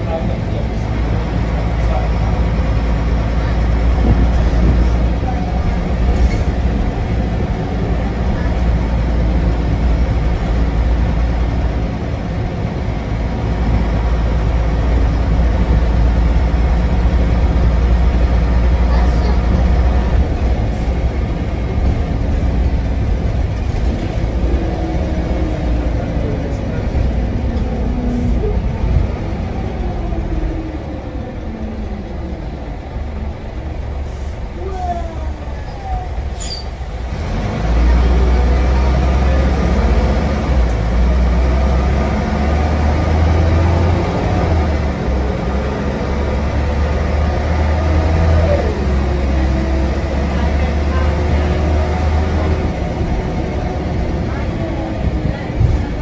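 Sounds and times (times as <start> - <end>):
bus engine low rumble: 0.0 - 56.0
road noise: 0.0 - 56.0.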